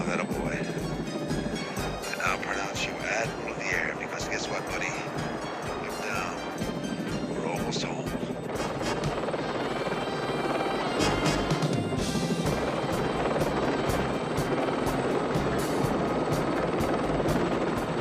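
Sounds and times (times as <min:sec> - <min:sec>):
background music score: 0:00.0 - 0:18.0
helicopter rotor and turbine: 0:00.0 - 0:18.0.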